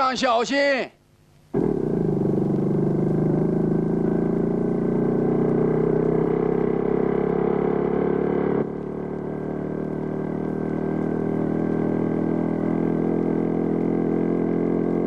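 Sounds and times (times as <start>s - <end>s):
cartoon motorcycle engine drone: 1.5s - 15.0s.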